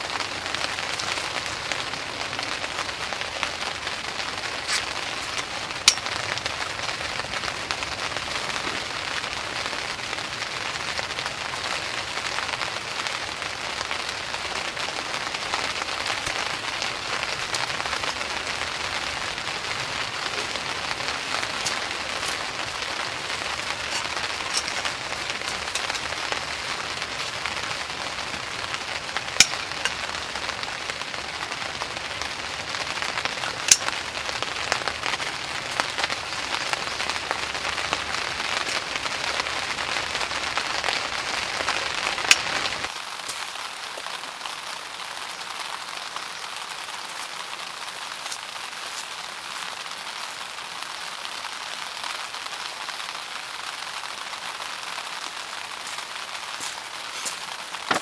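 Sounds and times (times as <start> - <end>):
rain pattering on tent: 0.0 - 58.0.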